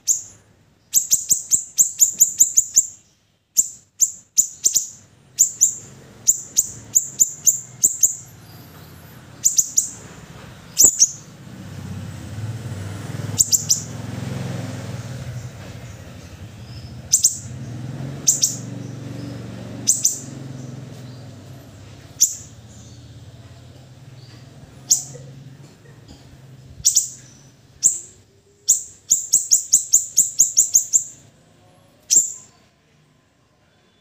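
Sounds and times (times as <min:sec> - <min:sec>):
bird chirping high: 0:00.0 - 0:11.4, 0:13.2 - 0:32.8.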